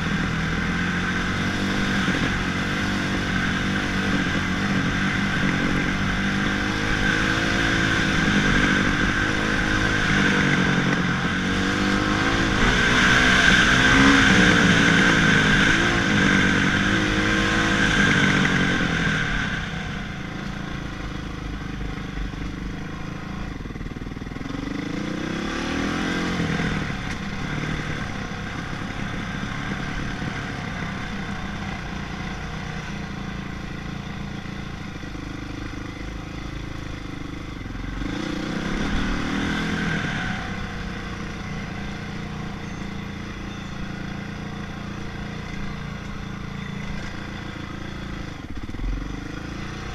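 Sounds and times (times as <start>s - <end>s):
motocross bike engine revving: 0.0s - 20.9s, 22.5s - 34.8s, 36.1s - 49.9s.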